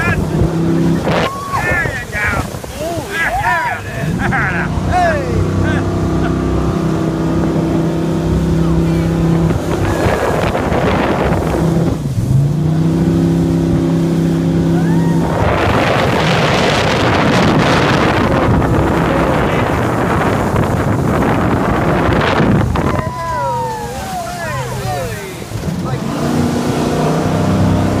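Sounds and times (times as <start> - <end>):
jet boat engine running: 0.0 - 28.0
rush of water spray and wind: 0.0 - 28.0.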